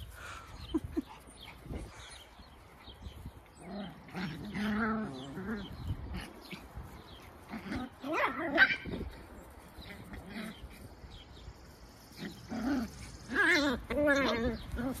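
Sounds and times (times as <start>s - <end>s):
puppies play-wrestling: 0.0s - 15.0s.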